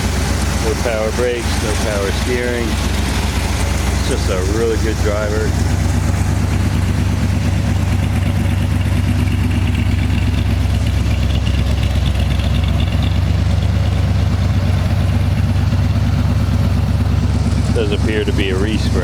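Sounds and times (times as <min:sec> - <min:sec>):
engine idling with low rumble: 0:00.0 - 0:19.0.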